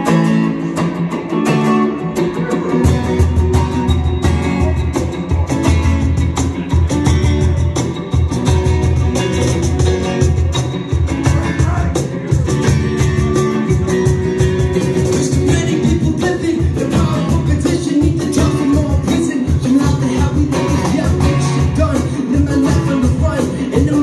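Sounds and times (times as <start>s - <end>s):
fast cajon beat: 0.0s - 24.0s
strummed acoustic guitar: 0.0s - 24.0s.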